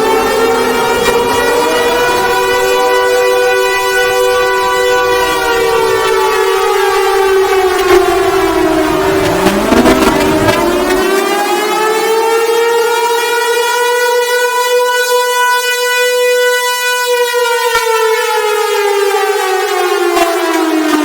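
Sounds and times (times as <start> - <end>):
civil defense siren wailing: 0.0 - 21.0.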